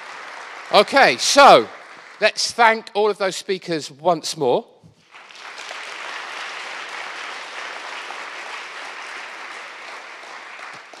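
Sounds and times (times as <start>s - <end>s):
audience applauding: 0.0s - 2.9s, 5.1s - 11.0s.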